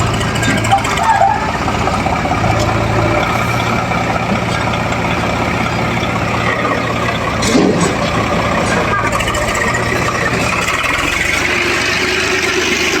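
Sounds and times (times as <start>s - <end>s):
heavy diesel machinery engine: 0.0s - 13.0s.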